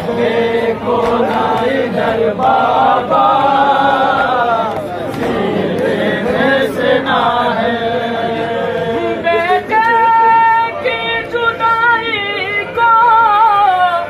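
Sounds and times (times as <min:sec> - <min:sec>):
crowd of men chanting a lament: 0:00.0 - 0:14.0.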